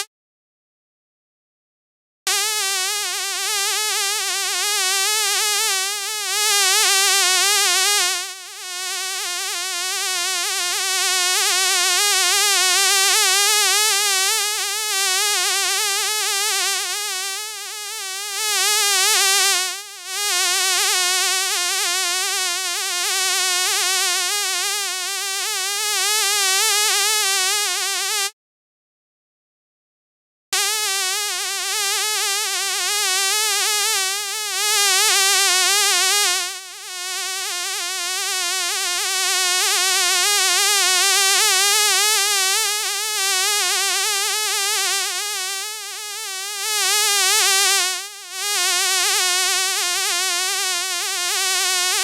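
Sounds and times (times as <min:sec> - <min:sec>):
fly buzzing: 0:02.3 - 0:11.8, 0:12.4 - 0:28.3, 0:30.6 - 0:52.0.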